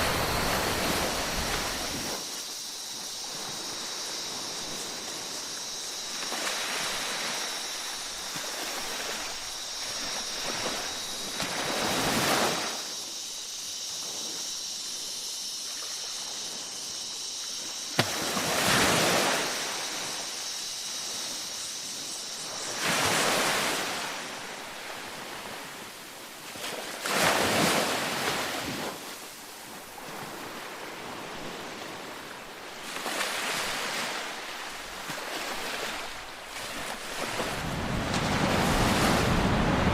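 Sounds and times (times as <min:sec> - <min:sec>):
high insect buzz: 0:00.0 - 0:39.9
small waves breaking on sand: 0:00.0 - 0:39.9.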